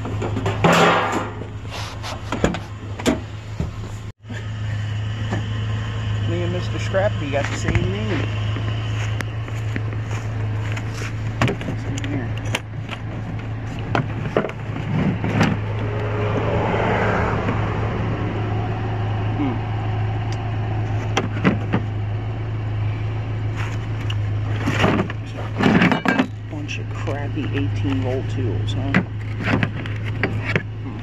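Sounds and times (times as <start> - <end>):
idling vehicle engine hum: 0.0 - 31.0.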